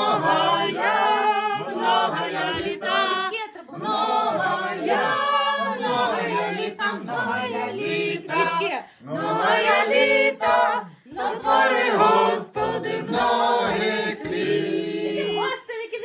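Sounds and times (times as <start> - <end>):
group singing unaccompanied: 0.0 - 15.8.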